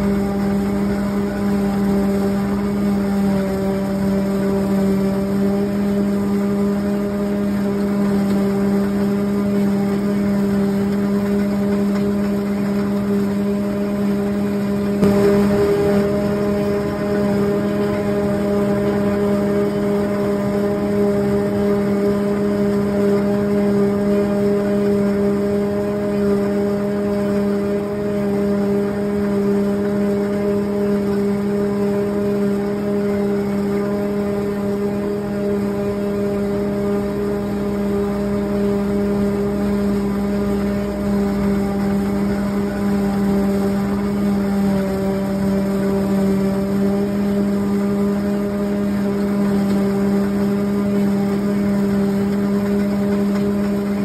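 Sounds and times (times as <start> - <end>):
steady machine hum: 0.0 - 54.0.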